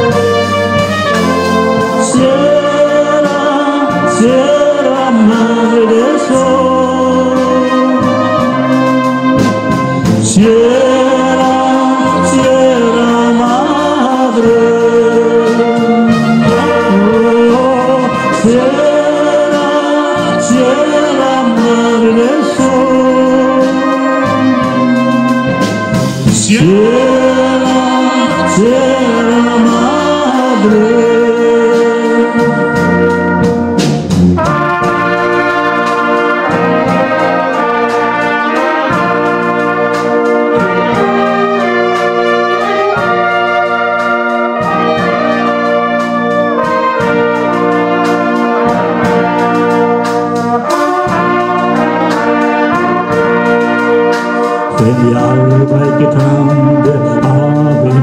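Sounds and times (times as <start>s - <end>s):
brass band playing: 0.0s - 58.0s
percussion strokes: 8.0s - 58.0s.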